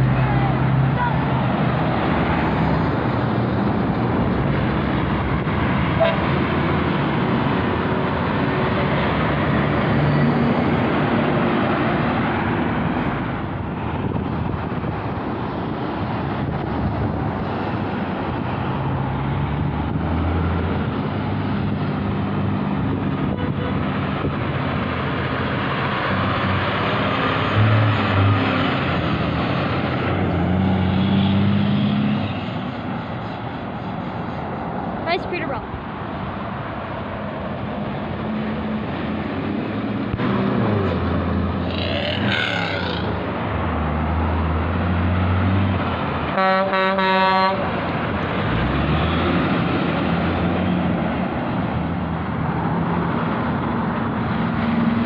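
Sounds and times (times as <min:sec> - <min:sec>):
trucks passing: 0:00.0 - 0:55.0.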